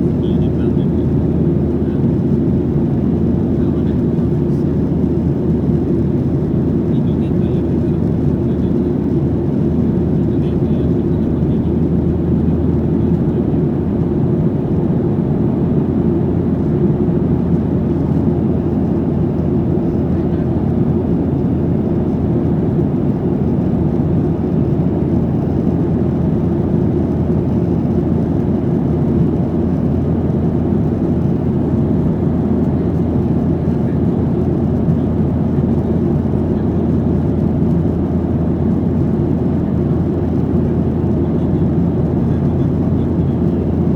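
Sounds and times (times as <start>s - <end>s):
jet engine drone in cabin: 0.0s - 43.9s.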